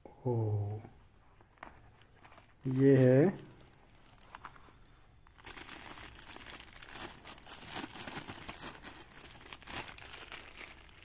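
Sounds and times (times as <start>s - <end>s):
plastic sleeve crinkling: 1.6s - 11.0s.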